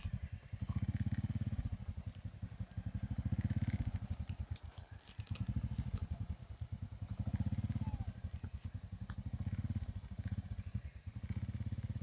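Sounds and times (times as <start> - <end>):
small motorcycle engine putter: 0.0 - 6.4, 7.0 - 12.0.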